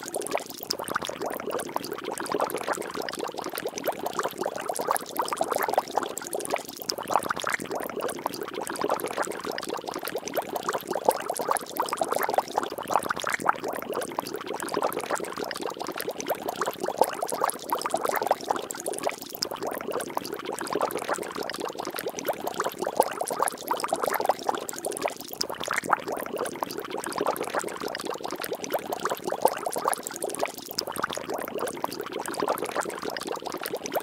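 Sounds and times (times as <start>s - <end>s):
liquid bubbling and splashing: 0.0s - 34.0s.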